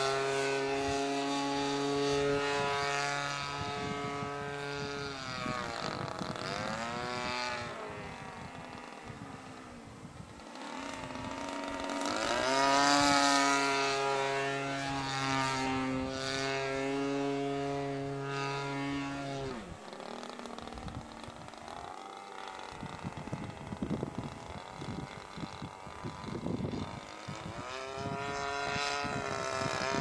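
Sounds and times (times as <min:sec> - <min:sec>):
model aeroplane engine and propeller: 0:00.0 - 0:30.0.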